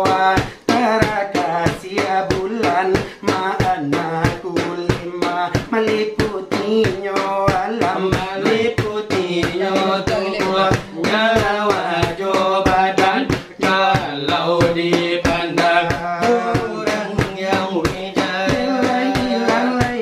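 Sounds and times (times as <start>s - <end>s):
fingers beating on a tray: 0.0s - 20.0s
voices chanting verses: 0.0s - 20.0s.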